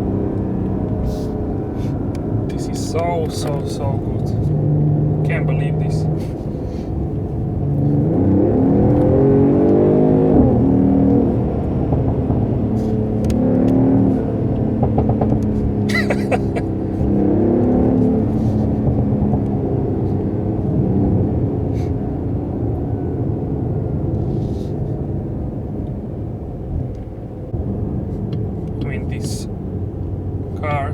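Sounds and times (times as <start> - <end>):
car engine accelerating hard: 0.0 - 30.9
exhaust crackle: 0.0 - 30.9.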